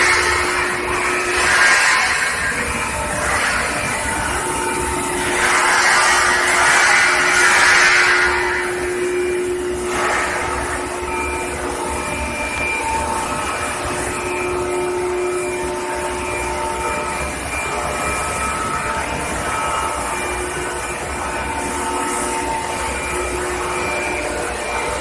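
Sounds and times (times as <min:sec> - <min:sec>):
industrial machinery rumble: 0:00.0 - 0:25.0
thin whining tones: 0:00.0 - 0:25.0.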